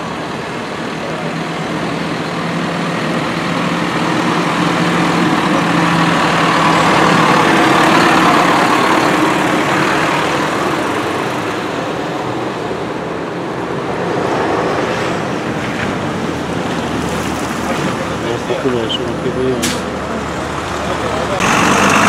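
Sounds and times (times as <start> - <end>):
tractor engine passing: 0.0 - 22.0
tyres hissing on wet road: 0.0 - 22.0.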